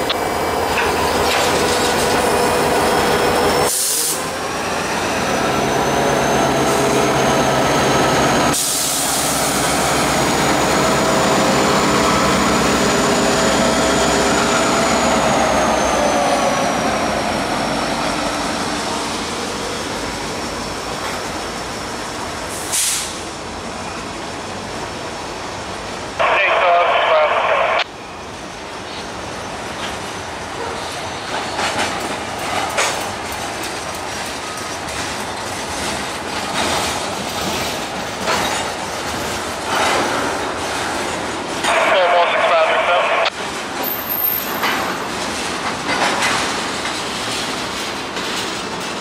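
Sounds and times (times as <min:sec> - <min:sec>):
freight train rumbling past: 0:00.0 - 0:26.3, 0:27.4 - 0:49.0.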